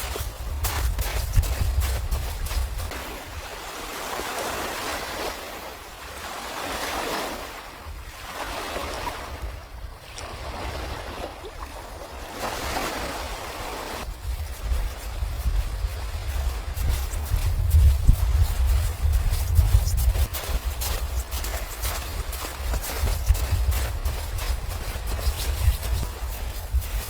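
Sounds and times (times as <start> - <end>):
waves washing onto shore: 0.0 - 27.0.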